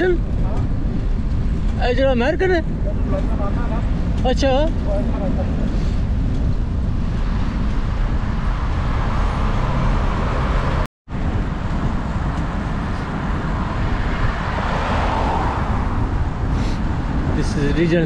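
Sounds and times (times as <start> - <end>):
deep rumble: 0.0 - 18.0
wind rushing over microphone: 0.0 - 18.0.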